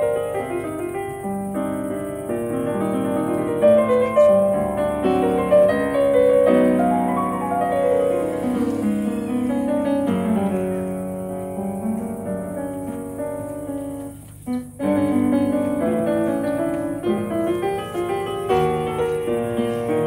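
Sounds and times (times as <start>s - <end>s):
grand piano melody over chords: 0.0s - 20.0s.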